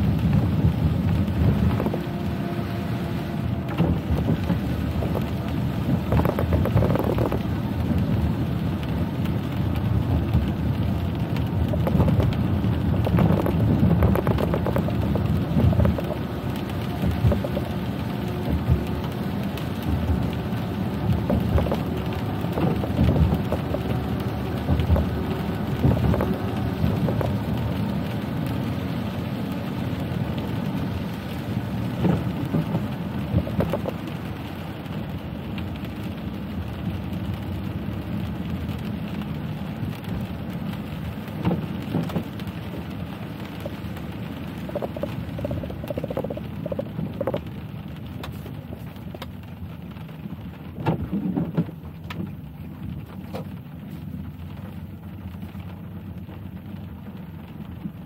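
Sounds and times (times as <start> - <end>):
rain striking a car: 0.0 - 58.0
wet road noise: 0.0 - 58.0.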